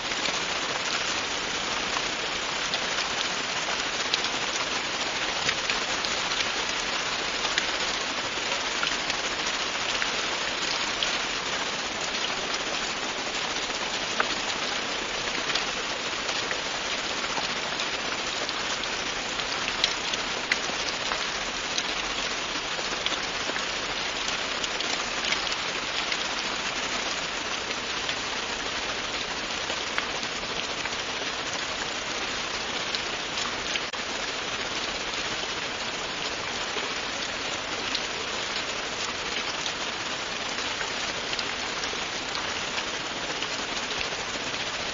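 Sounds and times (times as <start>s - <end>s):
raindrops ticking: 0.0s - 44.9s
steady rain hiss: 0.0s - 44.9s.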